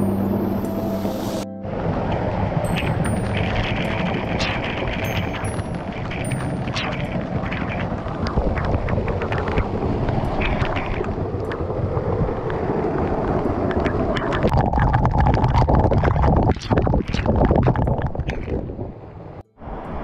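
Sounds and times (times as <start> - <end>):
waterfall pouring and splashing: 0.0 - 16.1.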